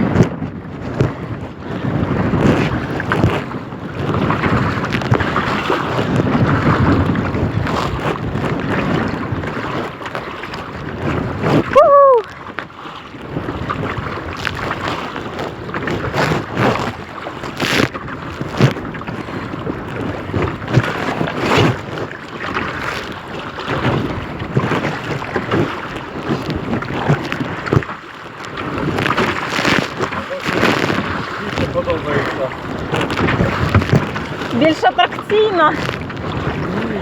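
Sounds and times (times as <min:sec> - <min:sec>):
water slapping against boat: 0:00.0 - 0:37.0
wind buffeting microphone: 0:00.0 - 0:37.0.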